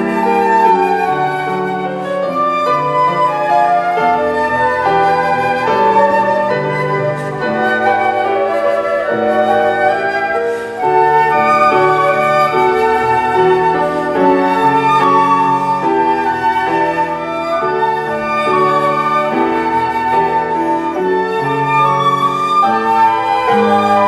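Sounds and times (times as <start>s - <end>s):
flute ensemble playing: 0.0s - 24.0s.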